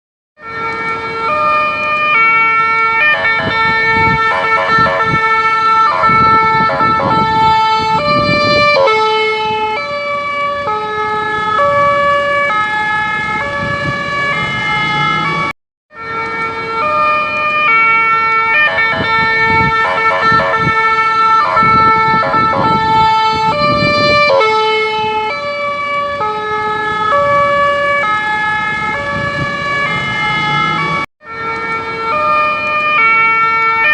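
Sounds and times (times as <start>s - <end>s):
electronic ambulance siren: 0.4s - 33.9s.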